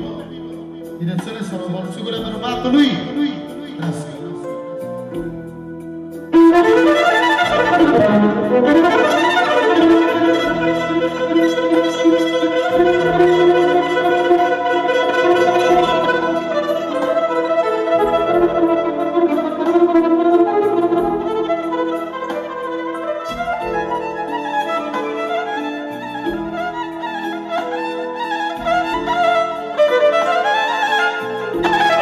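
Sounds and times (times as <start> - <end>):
electric violin melody: 0.0 - 32.0.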